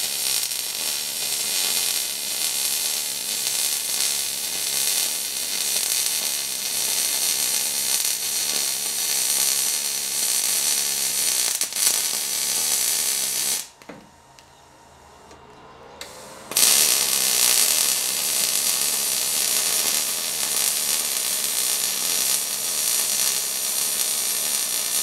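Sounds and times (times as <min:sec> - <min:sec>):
welding arc crackling: 0:00.0 - 0:13.8, 0:16.0 - 0:25.0.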